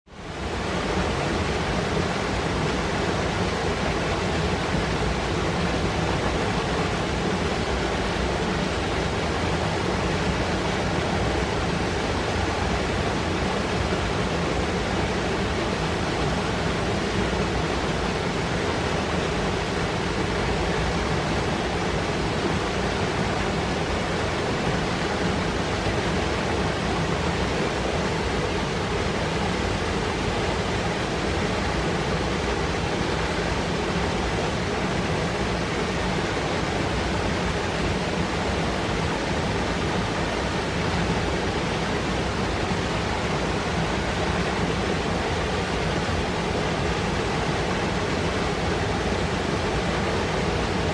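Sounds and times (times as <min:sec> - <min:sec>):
river rushing over rocks: 0:00.1 - 0:50.9.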